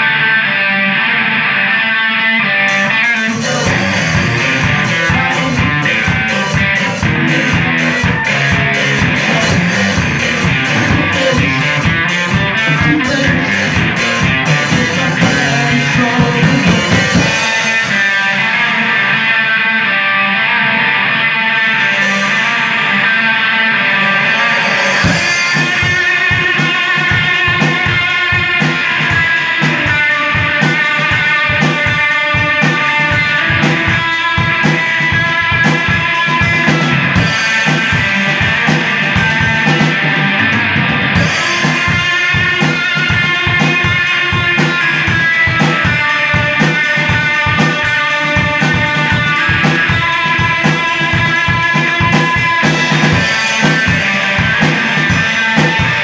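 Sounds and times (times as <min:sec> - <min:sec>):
bass guitar: 0:00.0 - 0:56.0
electric guitar: 0:00.0 - 0:56.0
drum kit: 0:02.7 - 0:20.2, 0:21.3 - 0:56.0.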